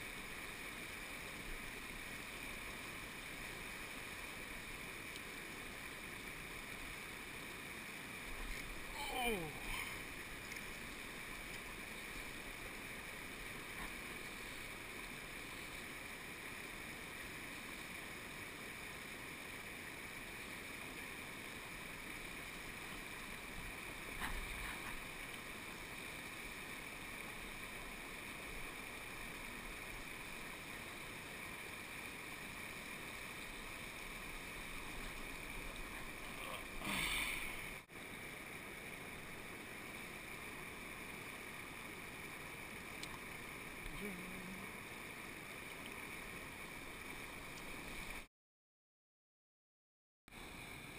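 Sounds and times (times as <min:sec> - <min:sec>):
stream and small waterfall rushing: 0:00.0 - 0:48.3, 0:50.3 - 0:50.9.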